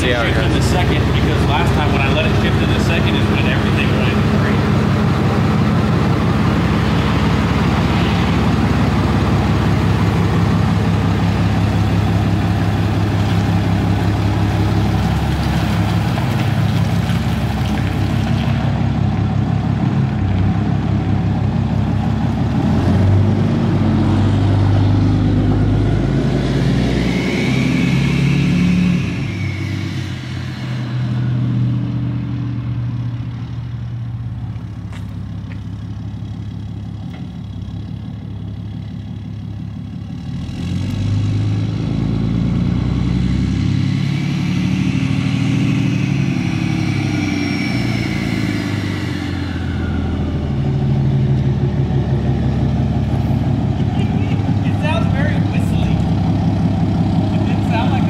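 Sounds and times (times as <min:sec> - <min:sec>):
diesel engine under load: 0:00.0 - 0:58.0
high engine whine: 0:00.0 - 0:58.0.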